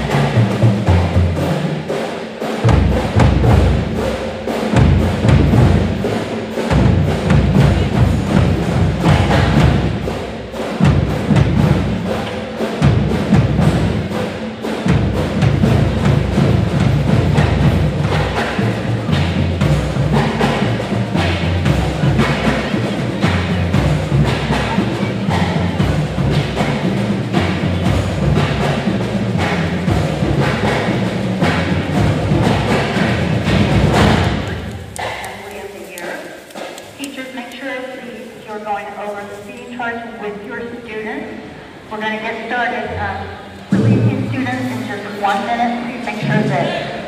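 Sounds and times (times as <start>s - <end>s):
pep band playing: 0.0s - 47.0s.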